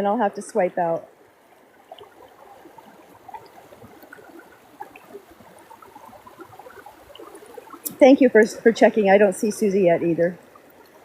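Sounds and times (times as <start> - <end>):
river babbling: 0.0 - 11.0.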